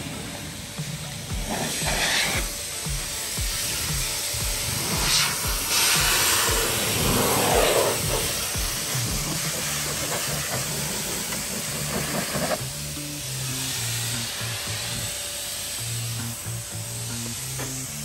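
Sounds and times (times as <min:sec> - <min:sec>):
air blower hissing: 0:00.0 - 0:18.0
background music: 0:00.0 - 0:18.0.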